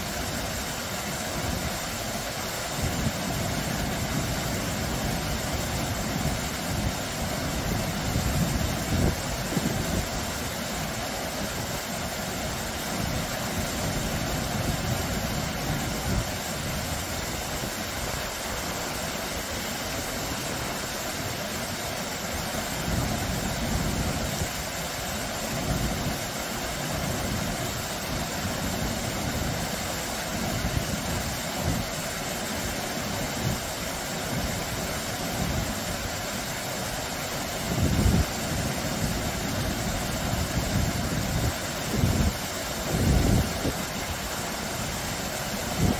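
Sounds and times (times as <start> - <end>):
waterfall splashing: 0.0 - 45.9.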